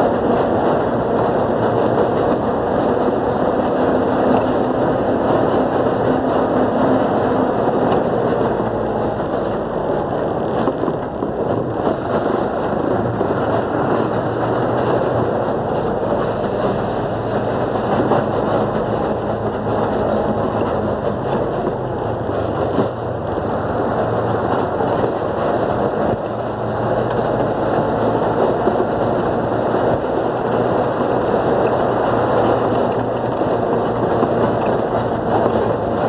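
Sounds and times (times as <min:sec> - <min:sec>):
bus engine: 0:00.0 - 0:36.0
road and tyre noise: 0:00.0 - 0:36.0.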